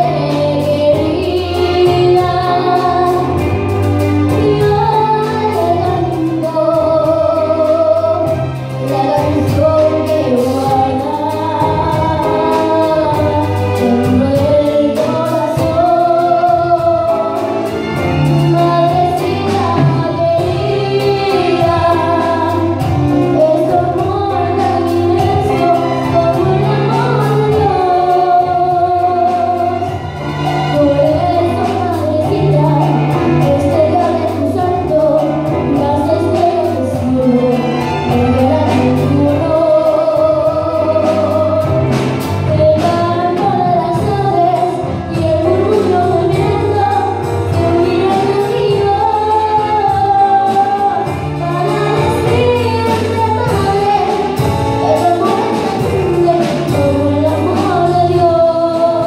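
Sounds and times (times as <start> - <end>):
girl singing into microphone: 0.0 - 59.0
string ensemble playing: 0.0 - 59.0.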